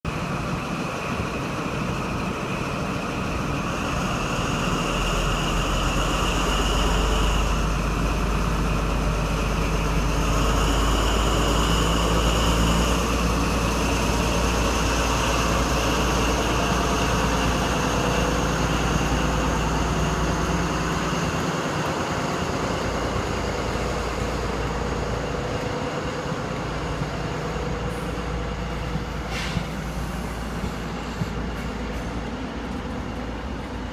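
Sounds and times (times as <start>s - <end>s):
diesel train engine drone and whine: 0.1s - 33.9s.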